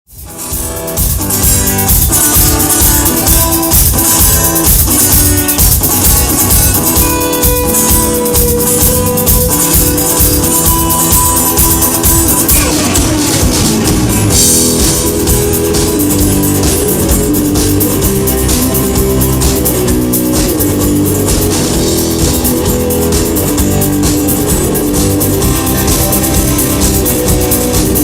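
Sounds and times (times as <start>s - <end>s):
drums steady beat: 0.1s - 28.0s
guitar: 0.1s - 28.0s
rock band playing: 0.1s - 28.0s.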